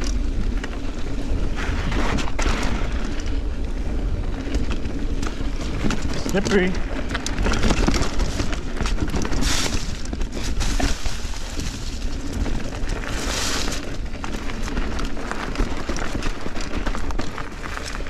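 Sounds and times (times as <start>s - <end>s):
bike rattling and knocking: 0.0s - 18.0s
bike tyres rolling on dirt: 0.0s - 18.0s.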